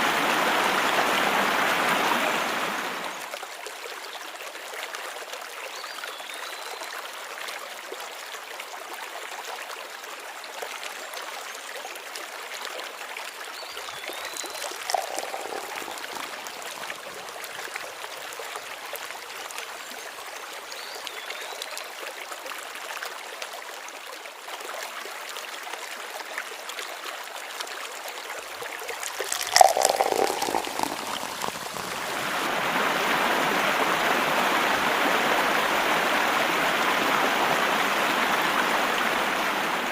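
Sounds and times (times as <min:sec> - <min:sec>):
creek water over stones: 0:00.0 - 0:39.9.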